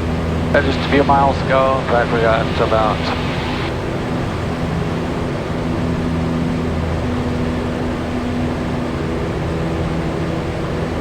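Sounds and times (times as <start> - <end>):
aircraft engine and propeller hum: 0.0 - 11.0.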